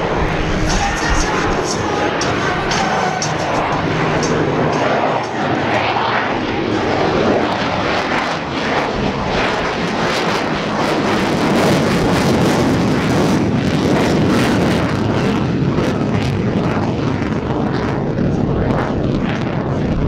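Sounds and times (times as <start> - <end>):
jet engine roaring with crackling: 0.0 - 20.0.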